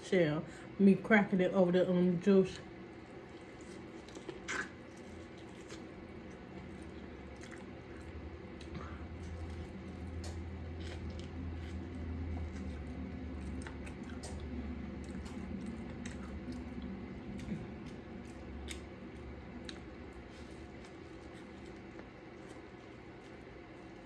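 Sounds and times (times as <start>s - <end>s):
steady low hum: 0.0s - 24.0s
wet chewing and squishing: 2.9s - 24.0s.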